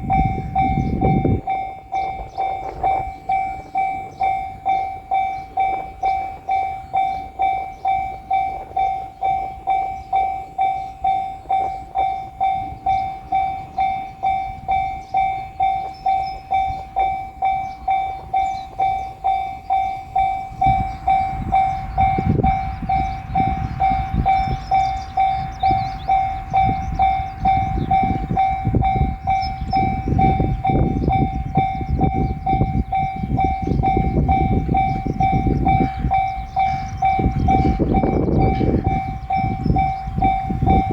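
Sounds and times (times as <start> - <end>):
level crossing bell ringing: 0.0 - 40.9
train passing over rails: 0.0 - 40.9.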